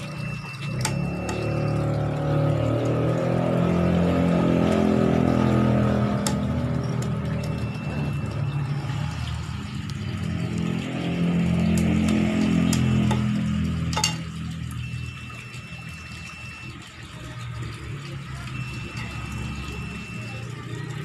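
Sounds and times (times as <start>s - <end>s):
motor engine running: 0.0s - 21.0s
tap water running into tub: 0.0s - 21.0s.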